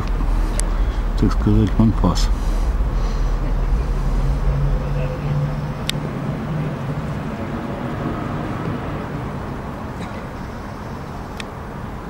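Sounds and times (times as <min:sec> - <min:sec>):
low rumble: 0:00.0 - 0:09.9
vehicle engine hum: 0:00.0 - 0:12.0.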